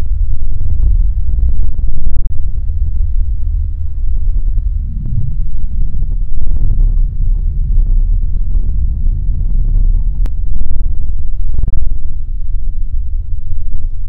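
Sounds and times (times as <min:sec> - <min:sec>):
deep continuous rumble: 0:00.0 - 0:14.0.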